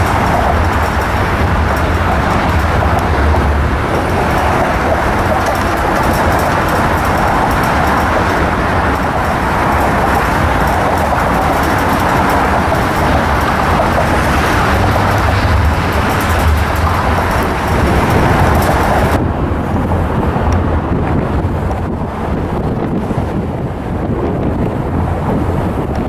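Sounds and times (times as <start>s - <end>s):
vehicle low rumble: 0.0s - 26.0s.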